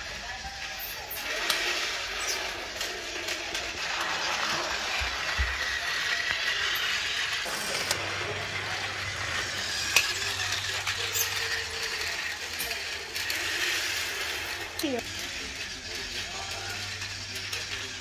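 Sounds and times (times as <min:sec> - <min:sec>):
toy train motor whirring: 0:00.0 - 0:18.0.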